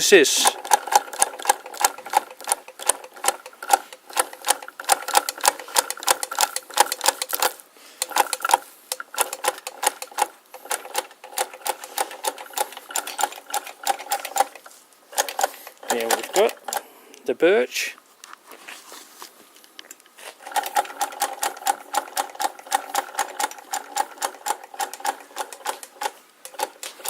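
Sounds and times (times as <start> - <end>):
sewing machine mechanism clicking: 0.0 - 16.9, 19.9 - 27.0.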